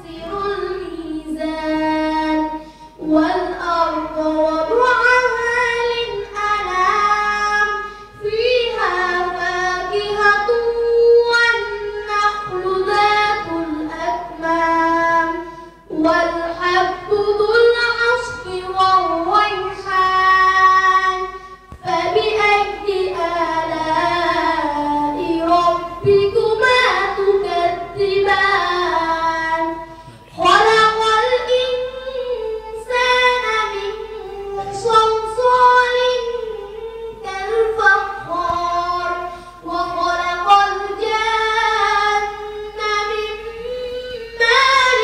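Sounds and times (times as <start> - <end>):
boy chanting into a microphone: 0.0 - 45.0.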